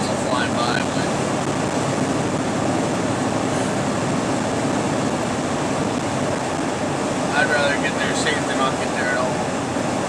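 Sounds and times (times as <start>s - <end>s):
truck road and engine noise: 0.0s - 10.0s.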